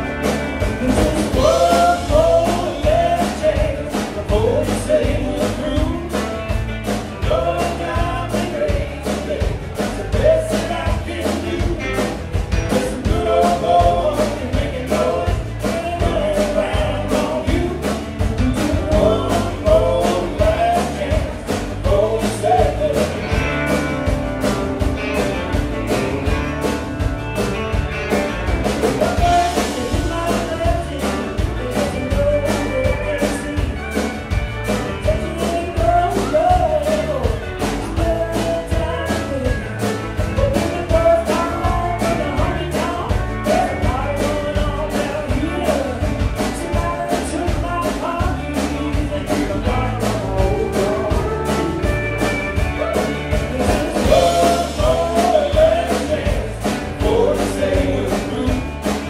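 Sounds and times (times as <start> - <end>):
country-rock band playing: 0.0 - 59.0
steady drum beat: 0.0 - 59.0.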